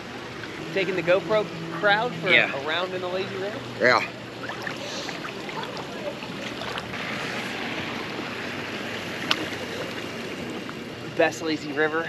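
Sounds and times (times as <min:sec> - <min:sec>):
water sloshing and rushing: 0:00.0 - 0:11.9.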